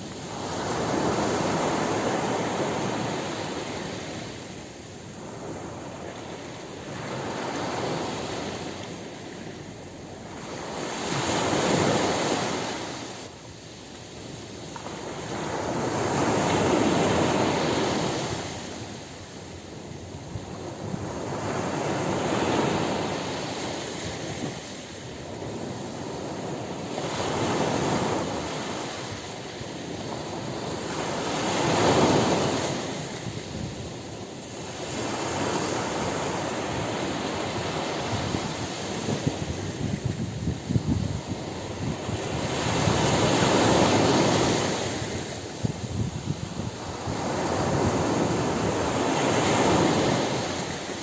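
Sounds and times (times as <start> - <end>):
ocean waves breaking on beach: 0.0 - 51.0.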